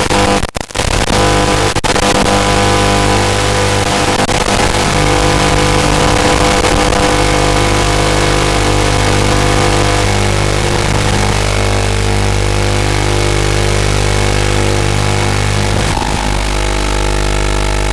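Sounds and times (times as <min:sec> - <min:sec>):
steady buzzing hum: 0:02.2 - 0:17.9.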